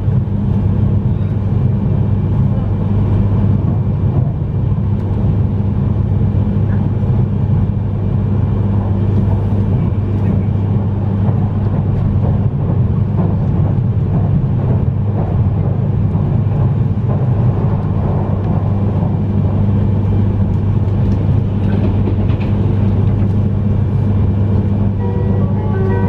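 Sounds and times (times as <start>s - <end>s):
train cabin hum: 0.0s - 26.0s
wheel and track rumble: 0.0s - 26.0s.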